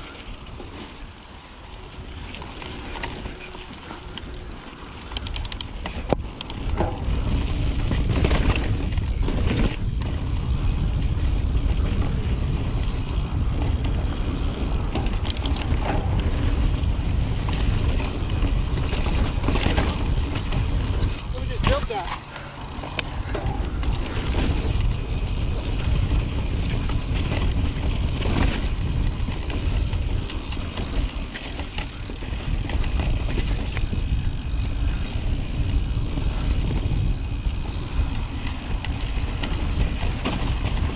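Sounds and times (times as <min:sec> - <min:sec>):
bike rattling and knocking: 0:00.0 - 0:40.9
bike tyres rolling over rocks: 0:00.0 - 0:40.9
wind rushing on microphone: 0:04.2 - 0:40.9.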